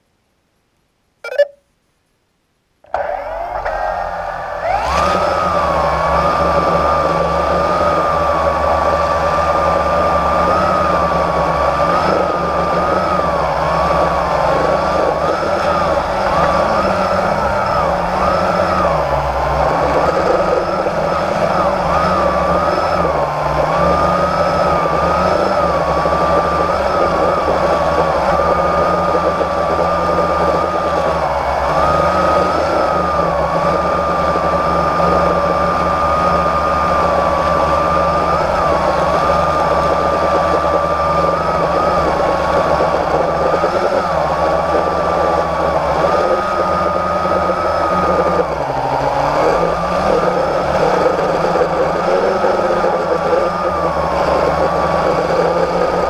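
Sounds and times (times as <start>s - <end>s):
drone motors and propellers whining: 2.9s - 56.0s.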